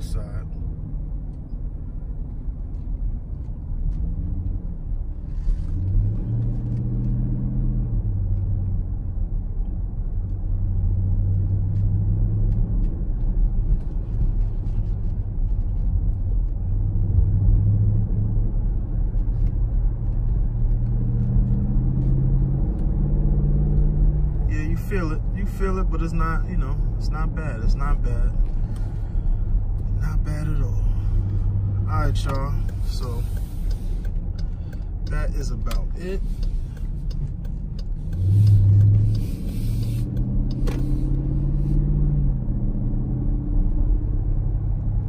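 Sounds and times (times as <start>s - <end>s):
car engine at low speed: 0.0s - 45.0s
road rumble: 0.0s - 45.0s.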